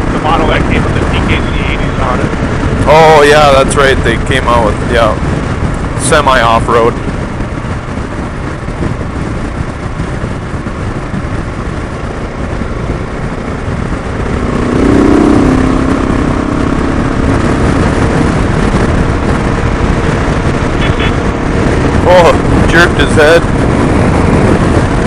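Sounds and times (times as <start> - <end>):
motorcycle engine: 0.0 - 25.0
wind rushing: 0.0 - 25.0.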